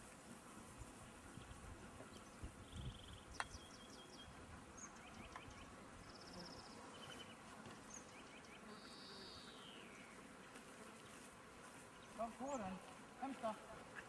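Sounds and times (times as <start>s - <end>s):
small birds chirping: 0.8s - 13.6s.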